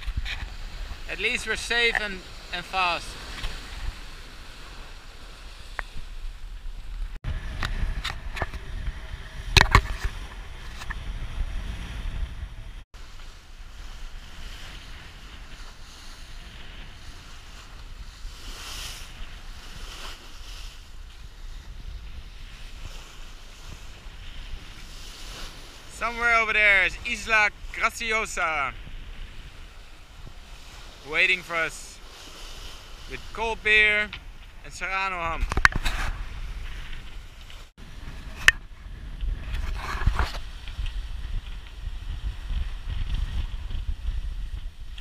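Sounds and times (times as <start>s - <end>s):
wind buffeting microphone: 0.0s - 25.9s, 26.9s - 31.0s, 35.2s - 45.0s
water rushing along hull: 0.0s - 45.0s.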